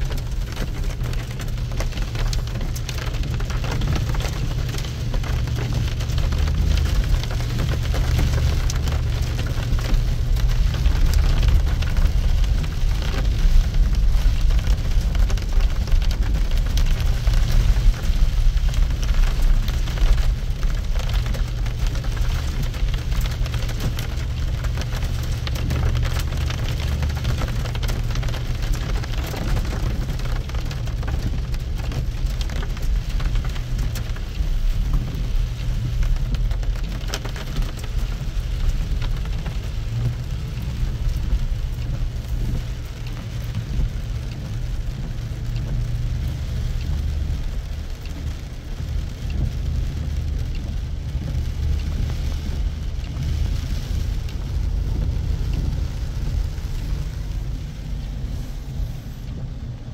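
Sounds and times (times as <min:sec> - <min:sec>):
engine and tyres on wet road: 0:00.0 - 0:59.9
rain on car windshield and roof: 0:00.0 - 0:59.9.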